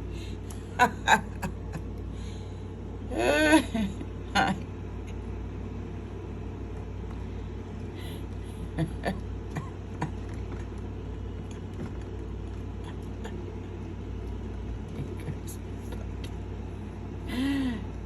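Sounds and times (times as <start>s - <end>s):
low rumble of city traffic: 0.0s - 18.0s.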